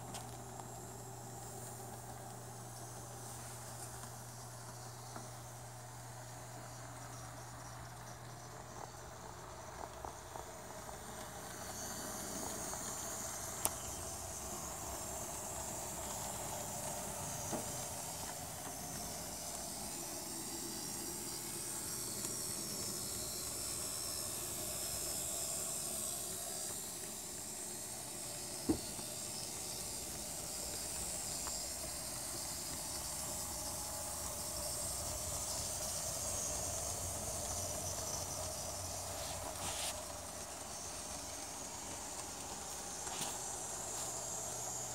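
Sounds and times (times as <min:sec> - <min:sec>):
model train motor and wheels hissing: 0:00.0 - 0:44.9.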